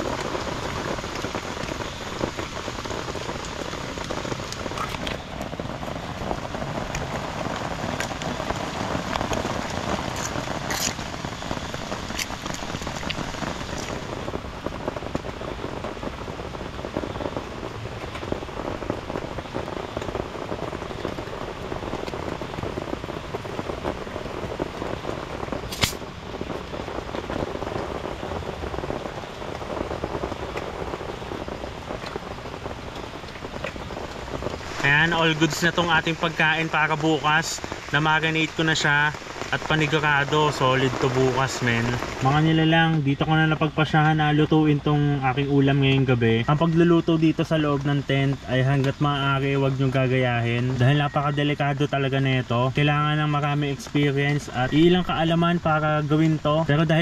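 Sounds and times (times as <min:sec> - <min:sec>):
rain falling on a tent: 0:00.0 - 0:57.0.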